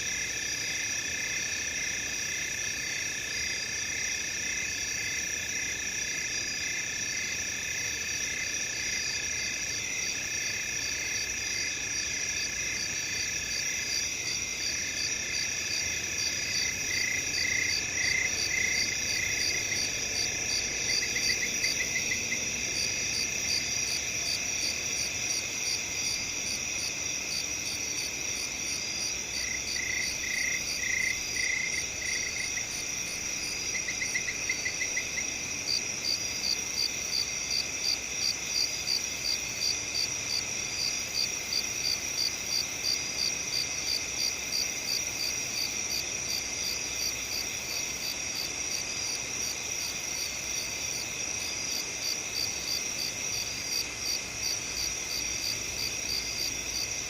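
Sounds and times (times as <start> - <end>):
cricket chorus: 0.0 - 57.0
single cricket chirping: 3.9 - 57.0.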